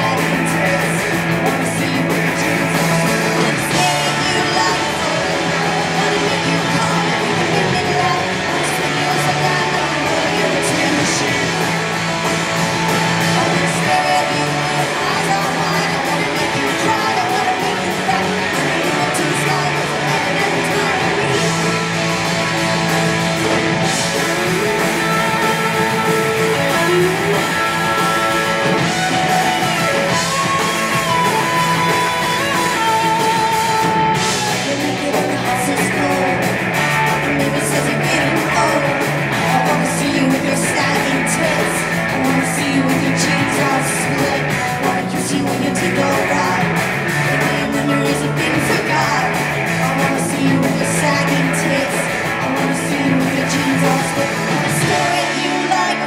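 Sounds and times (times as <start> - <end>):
drums: 0.0 - 56.0
electric guitar: 0.0 - 56.0
person singing: 0.0 - 56.0
rock band playing live: 0.0 - 56.0.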